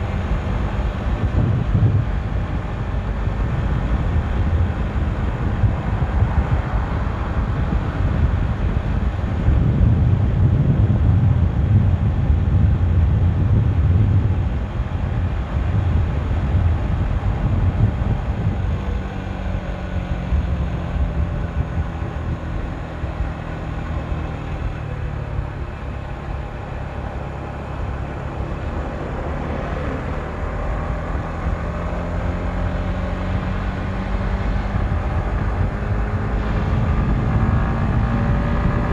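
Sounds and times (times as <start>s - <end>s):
motorcycle engine drone: 0.0s - 38.9s
wind buffeting microphone: 0.0s - 38.9s.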